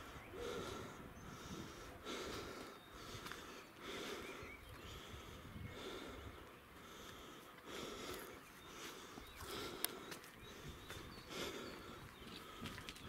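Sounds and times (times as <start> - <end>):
person breathing softly: 0.0 - 13.0.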